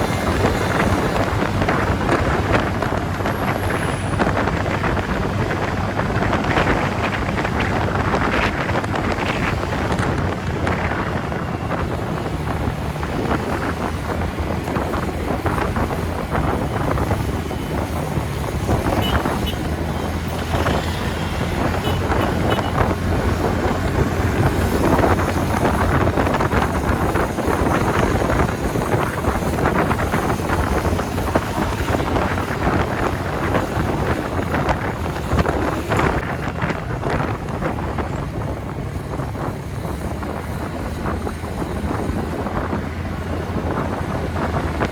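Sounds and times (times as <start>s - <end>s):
road noise: 0.0s - 44.9s
wind buffeting microphone: 0.0s - 44.9s.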